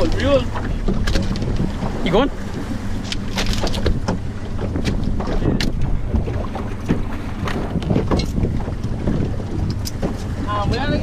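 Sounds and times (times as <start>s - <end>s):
boat motor humming: 0.0s - 11.0s
wind buffeting microphone: 0.0s - 11.0s.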